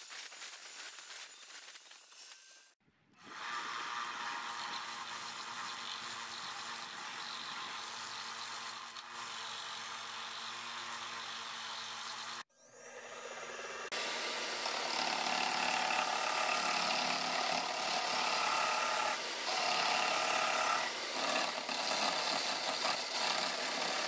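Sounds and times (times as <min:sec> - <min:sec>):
table saw: 0:03.2 - 0:24.0.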